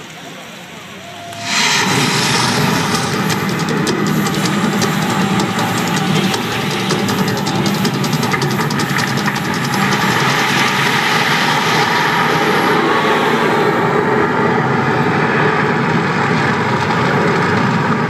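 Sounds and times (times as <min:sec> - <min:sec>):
volcano attraction rumbling roar: 0:00.9 - 0:18.0.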